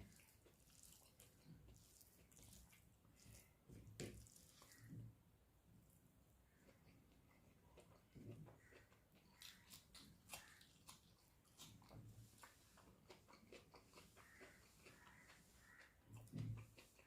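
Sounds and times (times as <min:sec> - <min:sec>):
person chewing: 0:00.0 - 0:05.0, 0:06.5 - 0:17.0.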